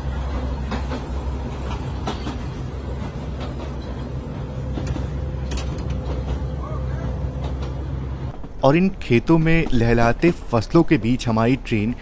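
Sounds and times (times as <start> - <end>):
train coach rumbling: 0.0 - 12.0.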